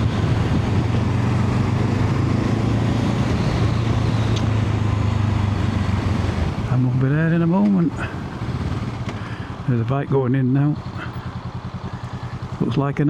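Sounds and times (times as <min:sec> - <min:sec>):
motorcycle engine humming: 0:00.0 - 0:13.0
wind and road noise: 0:00.0 - 0:13.0.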